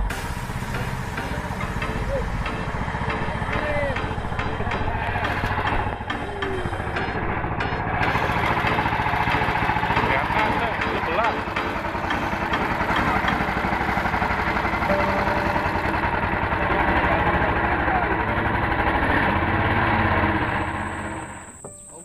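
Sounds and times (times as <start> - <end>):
small engine running: 0.0 - 21.6.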